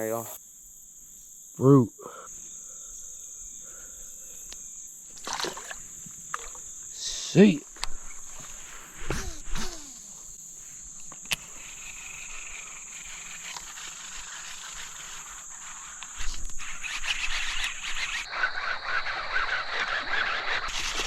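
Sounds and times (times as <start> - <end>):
frogs calling: 0.0 - 13.8, 14.4 - 21.0
high buzz of insects: 0.0 - 21.0.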